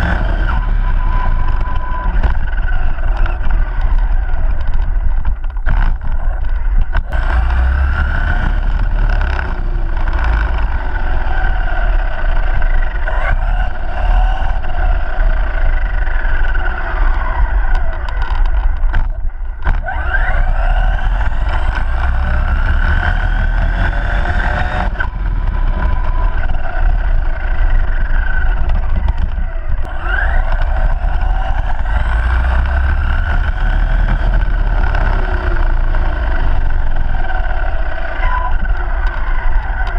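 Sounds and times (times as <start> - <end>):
electric motor whining: 0.0 - 39.9
steady low rumble: 0.0 - 39.9.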